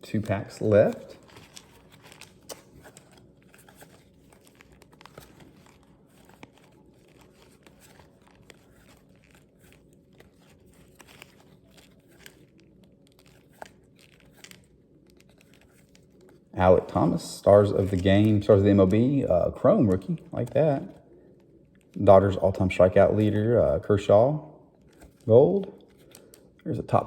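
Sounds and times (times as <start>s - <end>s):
cards being handled: 0.0s - 24.1s, 24.8s - 27.0s
wrapper crinkling and tearing: 0.1s - 27.0s.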